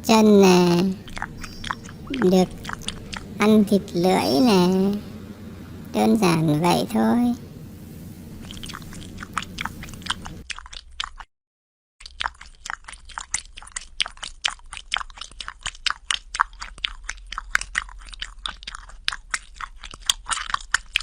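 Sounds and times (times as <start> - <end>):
pet licking its foot: 0.3 - 6.8, 7.4 - 11.2, 12.0 - 21.0.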